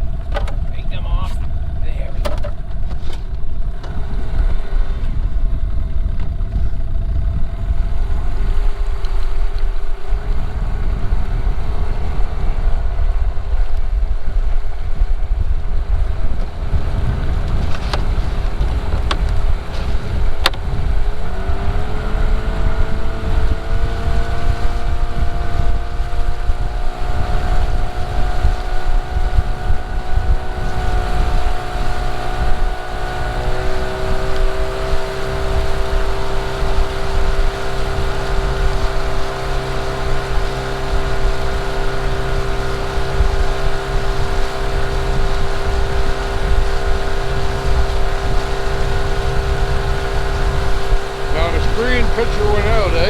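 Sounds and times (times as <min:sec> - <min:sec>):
outboard motor running: 0:00.0 - 0:53.0
wind buffeting microphone: 0:00.0 - 0:53.0.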